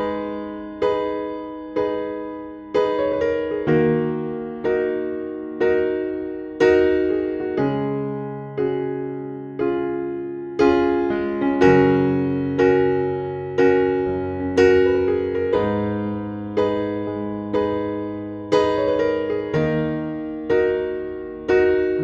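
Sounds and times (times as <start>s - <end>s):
slow electric piano chords: 0.0s - 22.0s.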